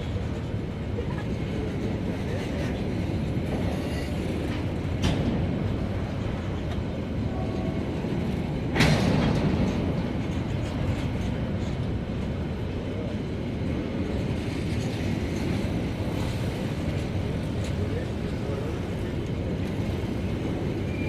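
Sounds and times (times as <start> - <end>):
freight train rumbling: 0.0 - 21.0
train clanking: 0.0 - 21.0.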